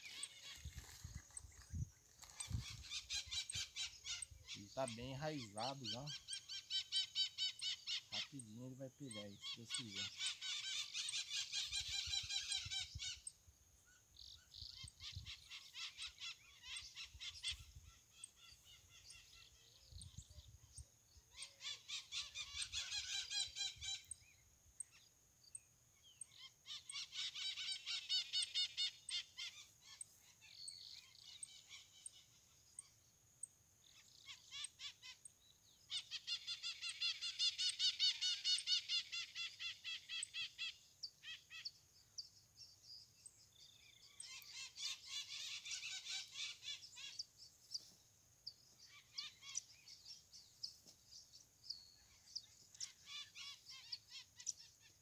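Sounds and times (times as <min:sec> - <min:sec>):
birds calling: 0:00.0 - 0:55.0.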